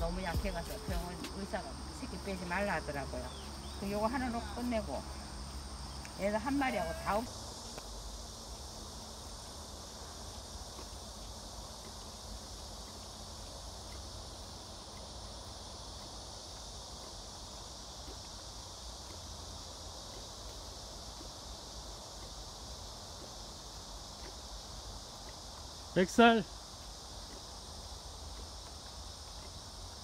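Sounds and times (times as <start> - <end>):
insect chorus drone: 0.0 - 30.0
low steady rumble: 0.0 - 30.0.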